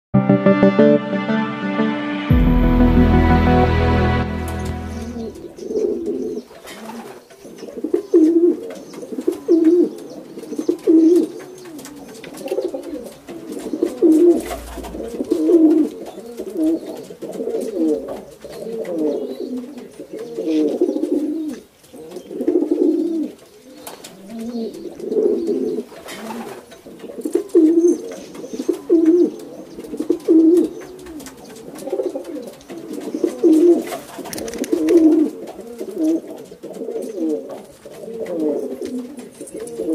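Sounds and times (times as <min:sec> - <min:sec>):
pigeons cooing: 0:05.6 - 0:39.9.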